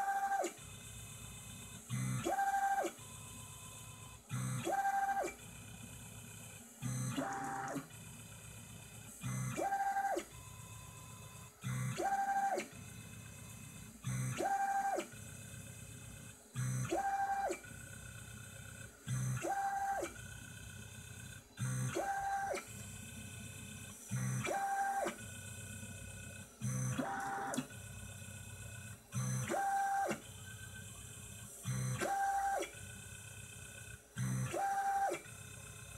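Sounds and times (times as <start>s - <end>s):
faint motor whine: 0.0s - 35.9s.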